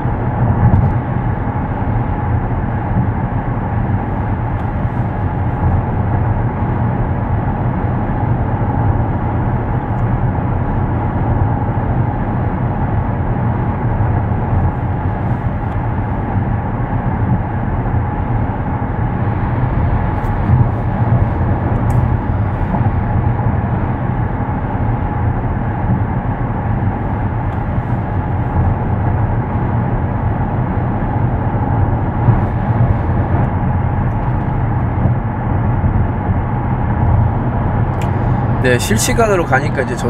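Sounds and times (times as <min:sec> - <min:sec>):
road and wind noise in car cabin: 0:00.0 - 0:40.0.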